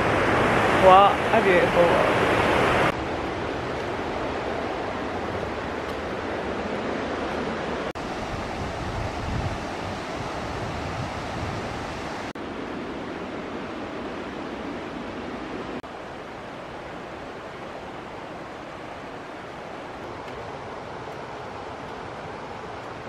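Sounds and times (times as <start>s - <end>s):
river rushing over rocks: 0.0s - 14.2s, 14.8s - 23.0s.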